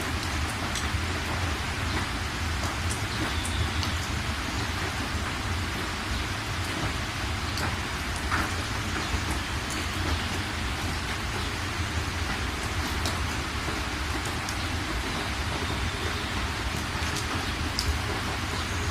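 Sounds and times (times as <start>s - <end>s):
raindrops ticking: 0.0s - 18.9s
steady rain falling: 0.0s - 18.9s.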